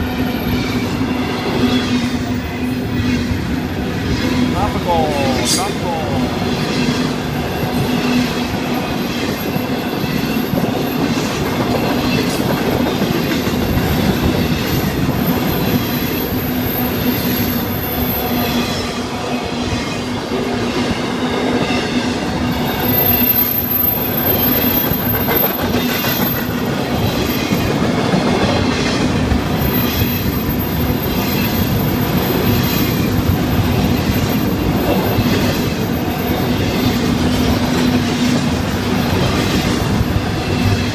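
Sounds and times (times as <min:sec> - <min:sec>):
freight train wheels clattering: 0:06.3 - 0:40.9.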